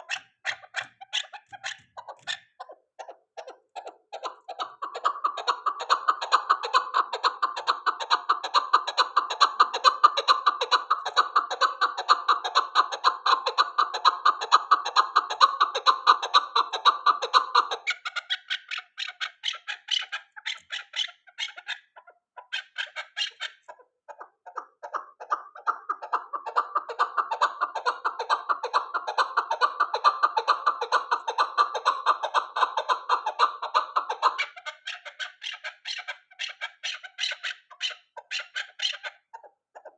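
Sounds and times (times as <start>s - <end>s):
partridge chuck calls: 0.0s - 39.9s.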